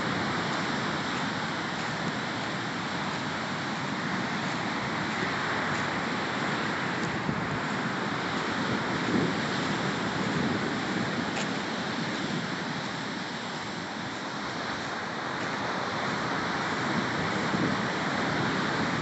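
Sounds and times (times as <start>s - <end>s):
sea surf breaking: 0.0s - 19.0s
wind: 0.0s - 19.0s.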